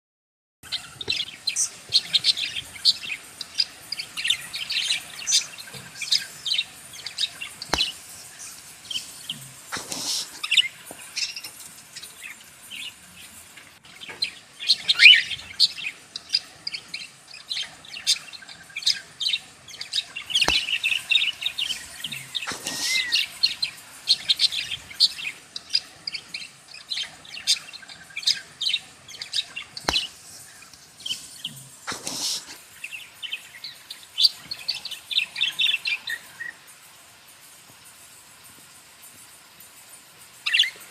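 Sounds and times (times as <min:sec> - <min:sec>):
birds chirping: 0:00.6 - 0:40.9.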